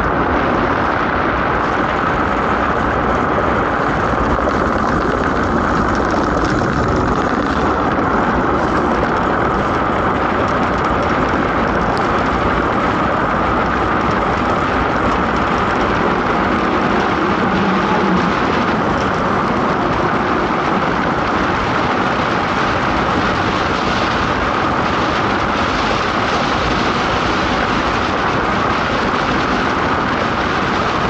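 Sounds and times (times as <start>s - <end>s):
rush of wind: 0.0s - 31.0s.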